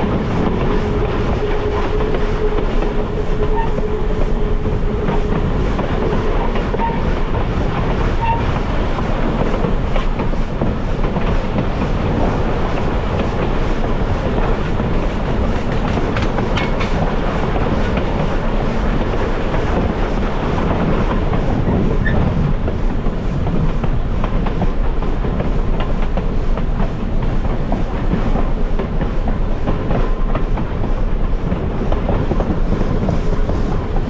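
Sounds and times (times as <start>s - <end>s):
clickety-clack of rail joints: 0.0s - 34.0s
train wheels rumbling on rail: 0.0s - 34.0s.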